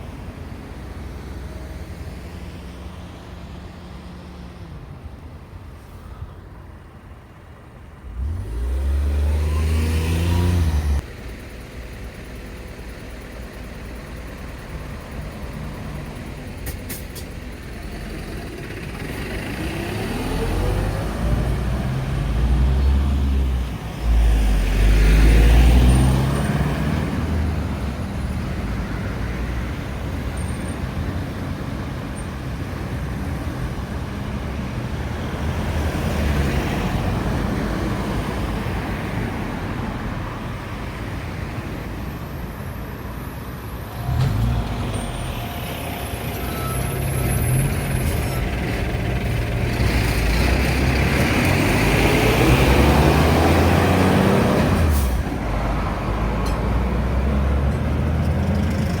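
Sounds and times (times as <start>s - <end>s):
cars and trucks passing: 0.0s - 59.0s.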